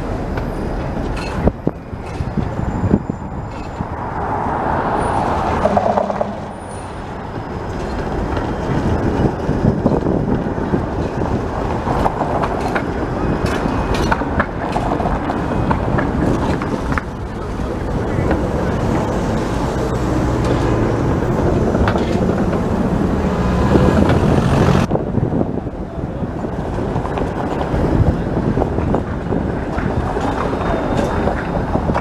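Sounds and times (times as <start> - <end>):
street traffic: 0.0 - 32.0
streetcar wheels rumbling on rail: 0.0 - 32.0.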